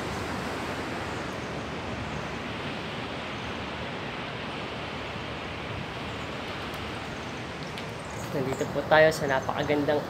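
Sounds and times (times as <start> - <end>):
surf washing: 0.0 - 10.0.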